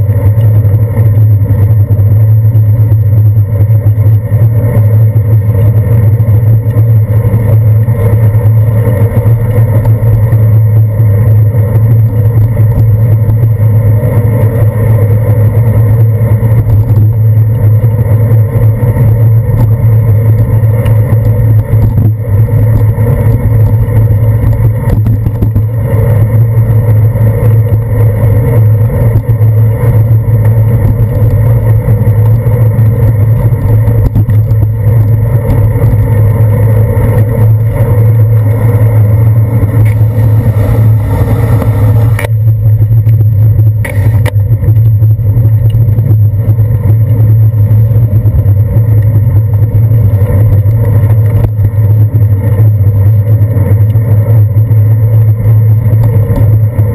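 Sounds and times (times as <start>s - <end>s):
wind and road rumble: 0.0s - 56.9s.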